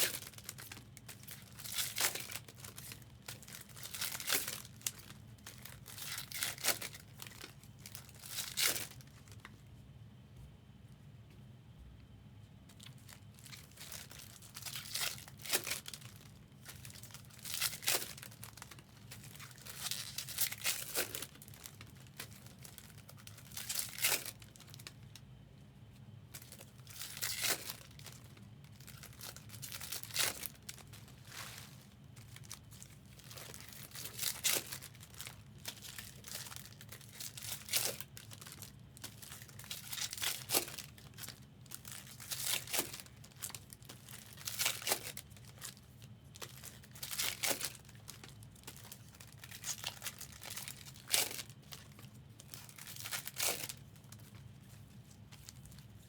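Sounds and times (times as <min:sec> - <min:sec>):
foil wrappers tearing and crinkling: 0:00.0 - 0:09.4, 0:12.8 - 0:25.1, 0:26.3 - 0:56.0.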